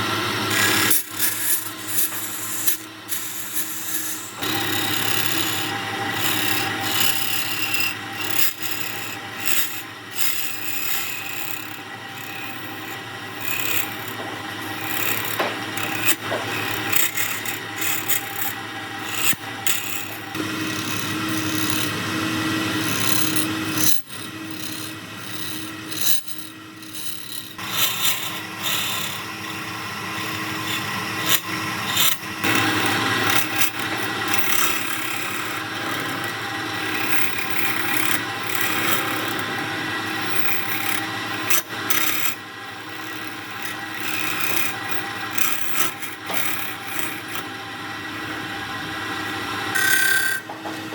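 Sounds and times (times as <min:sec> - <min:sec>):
lathe motor hum: 0:00.0 - 0:50.9
lathe tool scraping wood: 0:00.0 - 0:50.9.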